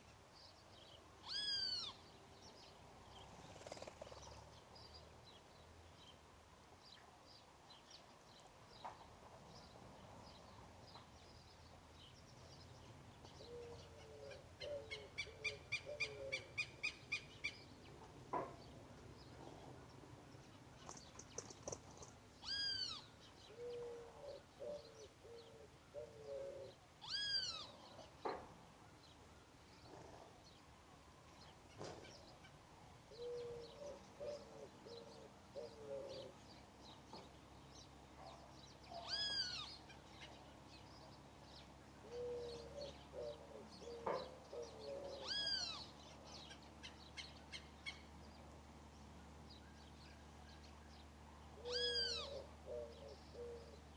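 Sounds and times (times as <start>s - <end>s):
wild birds calling: 0.0s - 4.6s, 9.6s - 29.1s, 31.4s - 48.4s, 49.5s - 53.9s.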